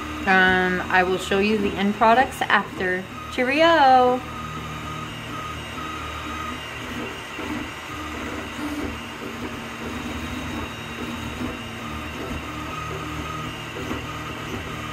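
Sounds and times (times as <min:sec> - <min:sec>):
fan hum: 0:00.0 - 0:14.9
stepper motors whining: 0:00.0 - 0:14.9.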